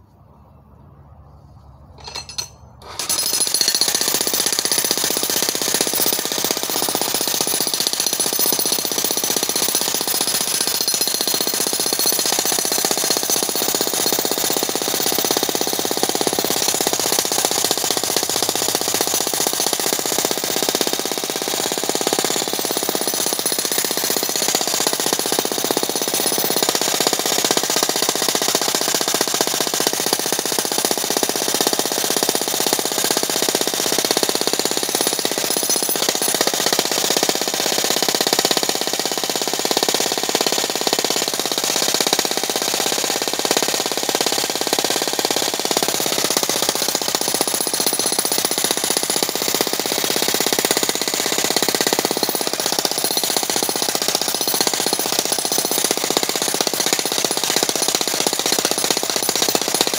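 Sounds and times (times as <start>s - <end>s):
demolition hammer pounding rock: 2.0s - 59.9s.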